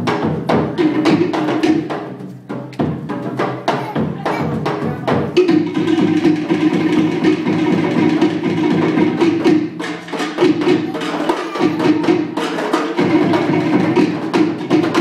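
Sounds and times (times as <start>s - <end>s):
fast dance drumming: 0.0s - 15.0s.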